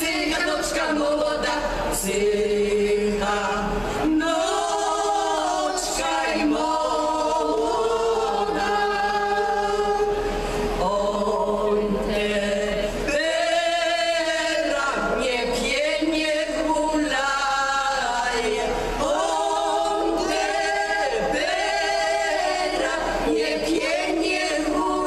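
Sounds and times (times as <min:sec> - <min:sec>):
women singing a cappella: 0:00.0 - 0:25.0.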